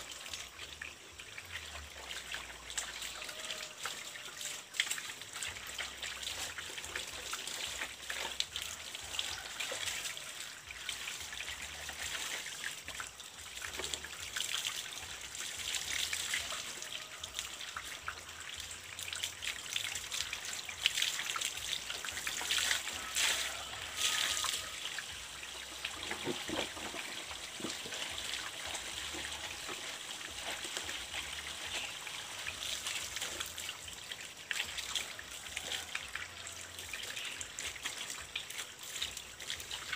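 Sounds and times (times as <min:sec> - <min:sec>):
small water splashes: 0:00.0 - 0:39.9
water trickling from pipe: 0:00.0 - 0:39.9.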